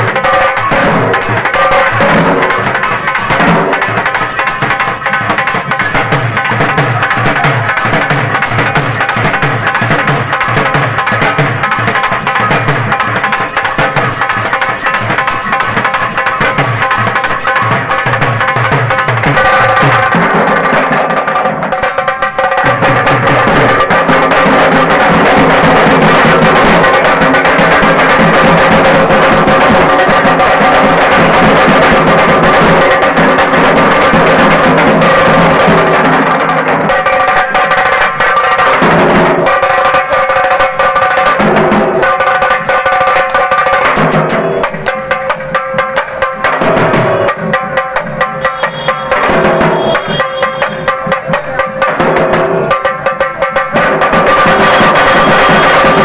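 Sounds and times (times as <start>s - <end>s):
barrel drums: 0.0s - 56.0s
kettle drum beaten fast with sticks: 0.0s - 56.0s.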